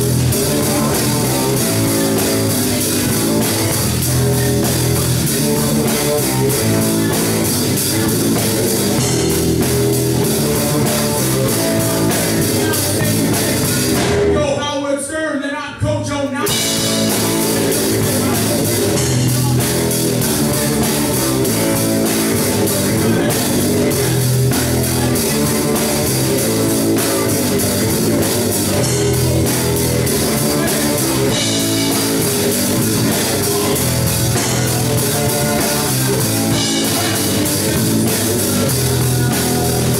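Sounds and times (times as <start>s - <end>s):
electric guitar: 0.0s - 14.4s, 16.4s - 39.9s
bass guitar: 0.0s - 14.7s, 16.4s - 39.9s
drum kit: 0.0s - 14.7s, 16.3s - 39.9s.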